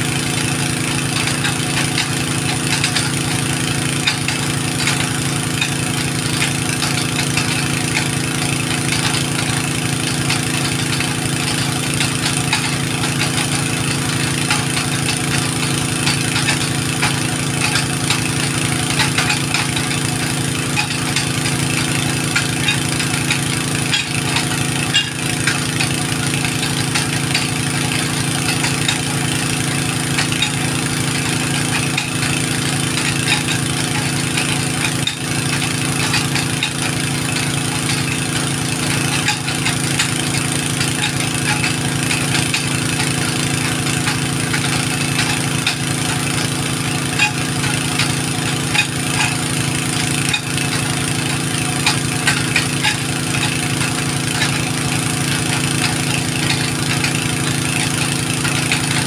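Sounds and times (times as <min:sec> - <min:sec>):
motor running steadily: 0:00.0 - 0:59.0.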